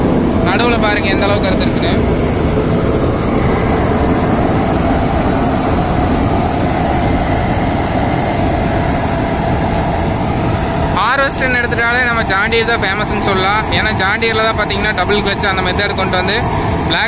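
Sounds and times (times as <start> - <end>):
combine harvester running: 0.0 - 17.0
faint steady whine: 0.0 - 17.0.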